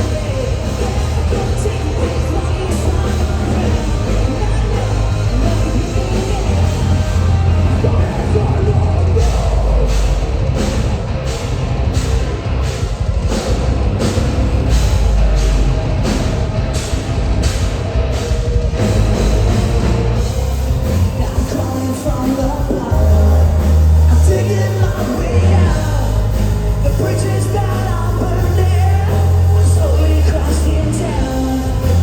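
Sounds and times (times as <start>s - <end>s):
metalcore band playing live: 0.0s - 32.0s.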